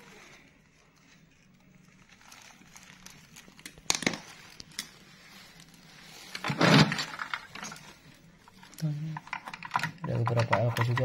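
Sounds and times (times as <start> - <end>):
crackling rustle: 0.0 - 9.7.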